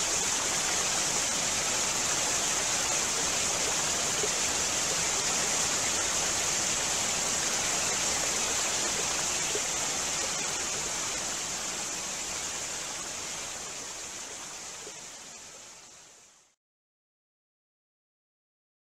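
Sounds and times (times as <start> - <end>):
running water rushing: 0.0 - 16.6.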